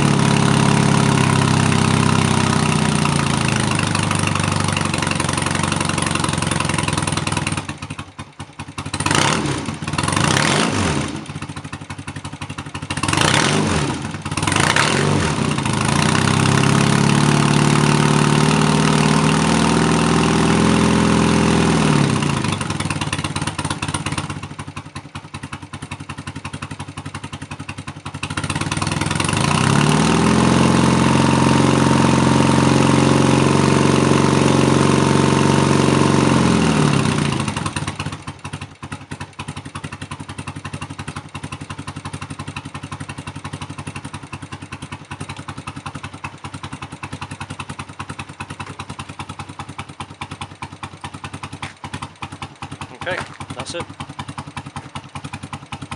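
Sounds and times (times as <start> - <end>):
motorcycle engine idling and revving: 0.0 - 55.9.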